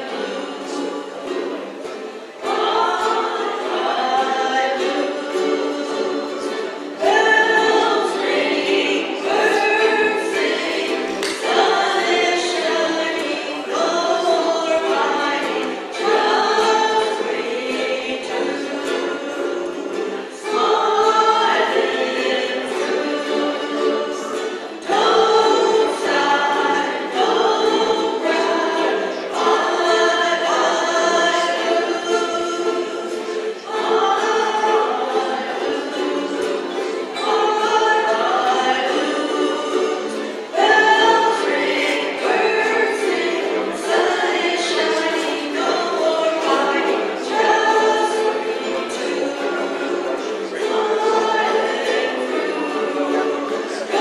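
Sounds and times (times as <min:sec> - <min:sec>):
group singing: 0:00.0 - 0:54.0
ukulele strumming: 0:00.0 - 0:54.0.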